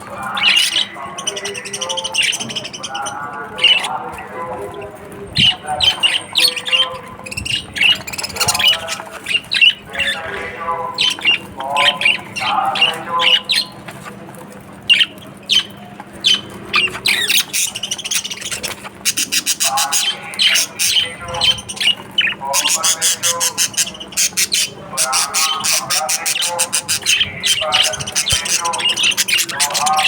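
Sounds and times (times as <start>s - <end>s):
budgerigars chattering and squawking: 0.0s - 30.0s
rapid clicking chatter: 0.0s - 30.0s.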